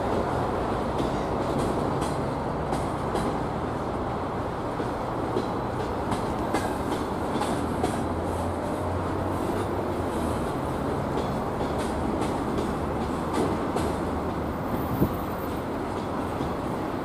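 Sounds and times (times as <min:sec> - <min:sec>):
rhythmic rail clicks: 0:00.0 - 0:17.0
train wheels rumbling on rails: 0:00.0 - 0:17.0.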